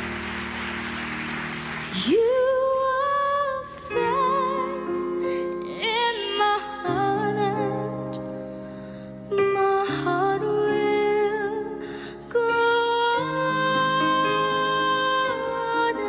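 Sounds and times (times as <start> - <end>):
slow tender melody with vibrato: 0.0 - 16.0.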